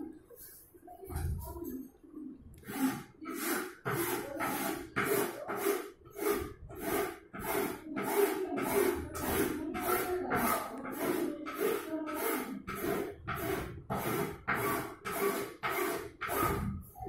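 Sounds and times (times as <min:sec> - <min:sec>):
rhythmic rubbing strokes: 0:02.6 - 0:17.0.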